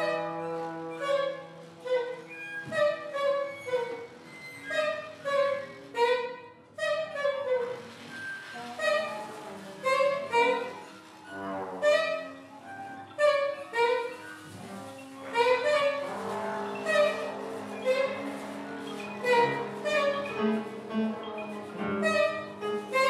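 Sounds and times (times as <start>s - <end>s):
violins and piano playing: 0.0s - 23.0s.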